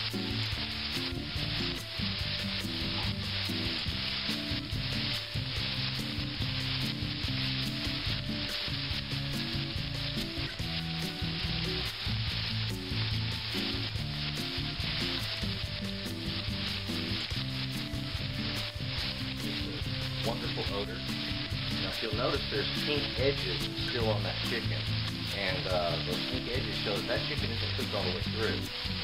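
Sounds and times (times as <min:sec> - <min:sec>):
chicken sizzling in skillet: 0:00.0 - 0:29.0.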